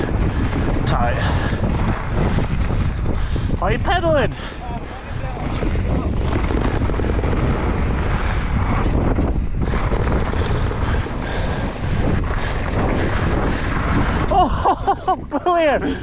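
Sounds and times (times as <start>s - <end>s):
mountain bike rushing down trail: 0.0s - 16.0s
wind buffeting microphone: 0.0s - 16.0s.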